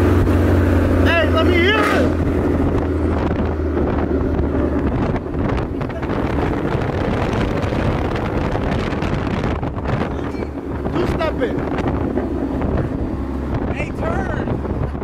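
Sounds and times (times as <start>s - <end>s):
car engine droning: 0.0s - 15.0s
road noise: 0.0s - 15.0s
wind buffeting microphone: 2.0s - 15.0s.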